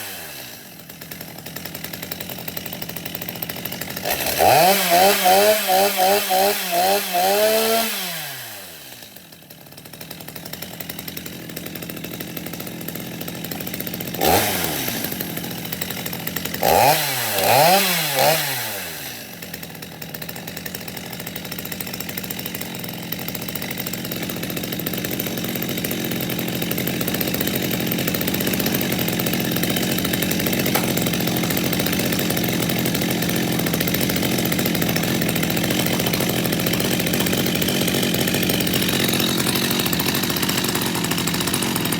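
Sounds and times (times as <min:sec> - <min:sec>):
chainsaw engine revving and idling: 0:00.0 - 0:41.9.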